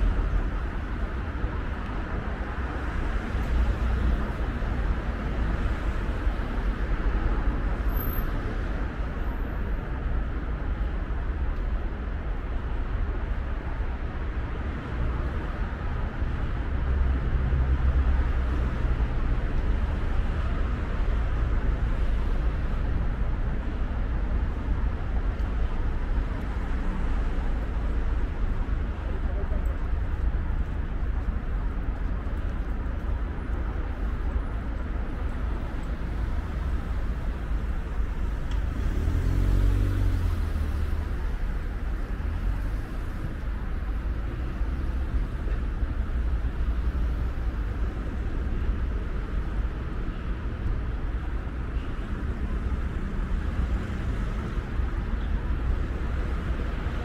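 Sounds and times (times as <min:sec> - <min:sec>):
city traffic rumbling: 0:00.0 - 0:57.0.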